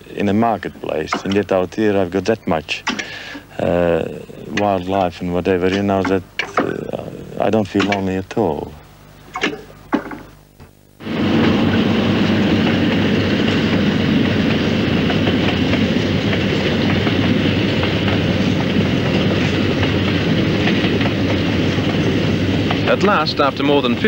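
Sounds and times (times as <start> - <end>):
train rumbling: 0.0 - 8.7, 11.0 - 24.0.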